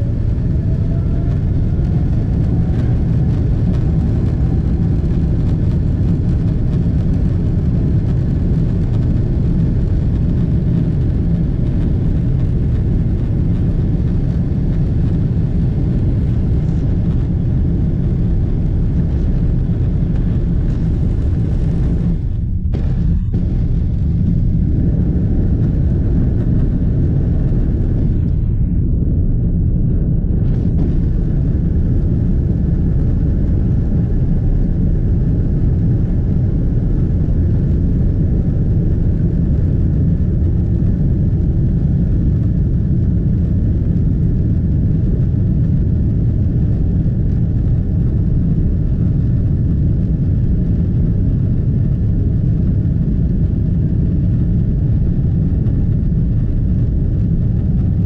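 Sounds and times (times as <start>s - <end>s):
jet engines roaring: 0.0s - 58.0s
takeoff roll rumble: 0.0s - 58.0s.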